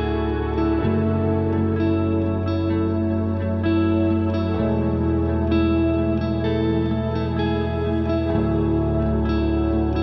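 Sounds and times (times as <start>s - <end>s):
gentle new-age music with guitar: 0.0s - 10.0s.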